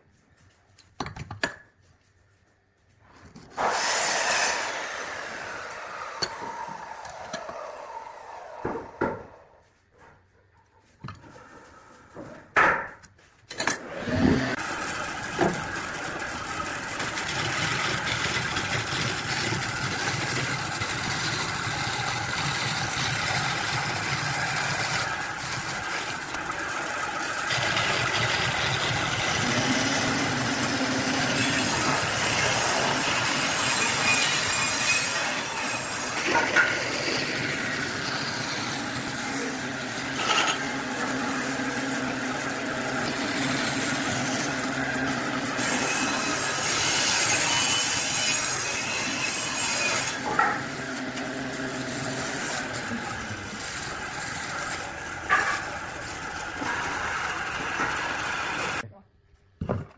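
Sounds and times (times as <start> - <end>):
wood lathe running: 3.6 - 9.2, 13.7 - 58.8
machine winding down: 3.6 - 9.4, 13.6 - 47.5, 49.6 - 58.8.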